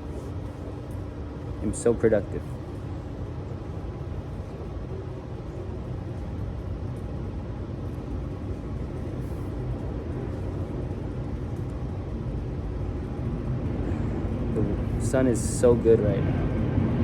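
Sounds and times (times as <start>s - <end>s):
airplane rumbling overhead: 0.0s - 17.0s.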